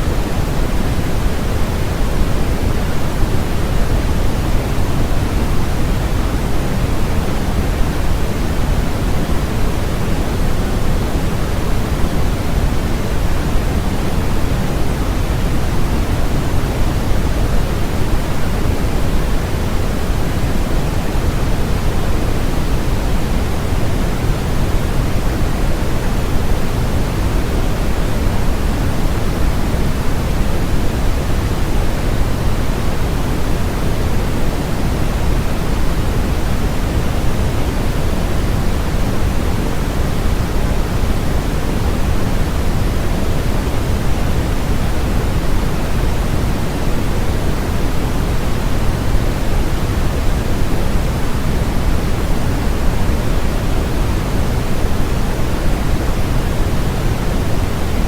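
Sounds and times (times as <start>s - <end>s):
steady synthetic noise hiss: 0.0s - 58.0s.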